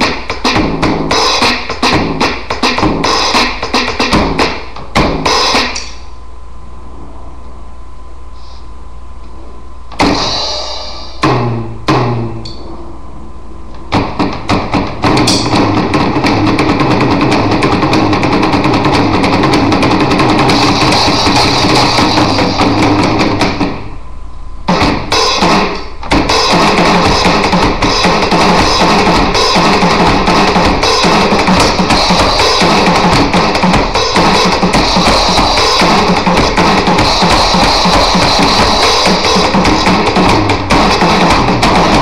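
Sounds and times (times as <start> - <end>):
electronic drum kit played with sticks: 0.0 - 6.2, 9.9 - 13.1, 13.7 - 42.0.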